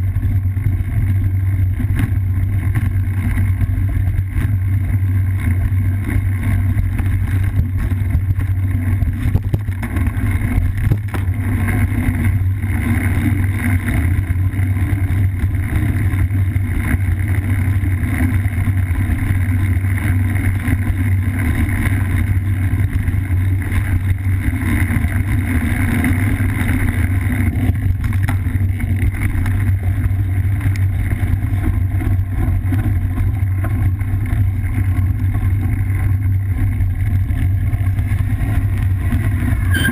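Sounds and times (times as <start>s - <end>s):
bike tyres rumbling on gravel: 0.0s - 39.9s.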